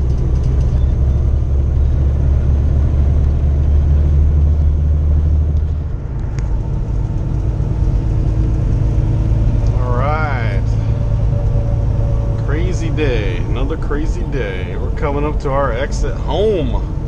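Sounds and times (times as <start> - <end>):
diesel truck engine drone: 0.0 - 17.0
road noise: 0.0 - 17.0.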